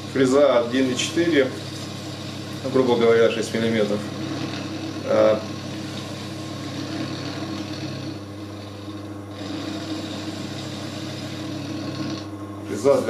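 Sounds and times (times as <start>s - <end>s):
milling machine motor humming: 0.0s - 13.0s.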